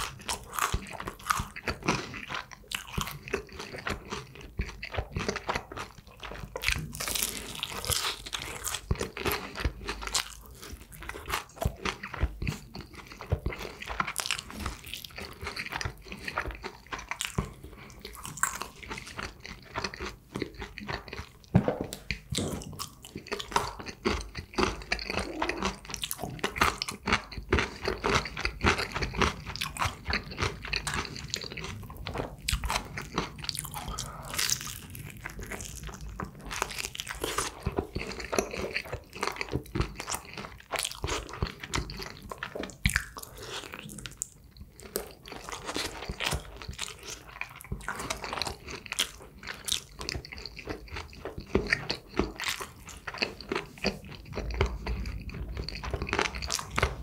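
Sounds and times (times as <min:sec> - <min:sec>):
crunching fried chicken bites: 0:00.0 - 0:57.0.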